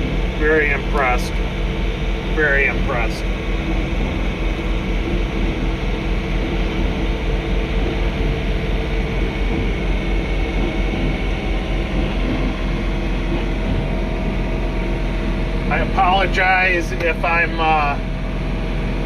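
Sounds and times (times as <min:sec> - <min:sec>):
tractor engine and snowblower running: 0:00.0 - 0:19.0.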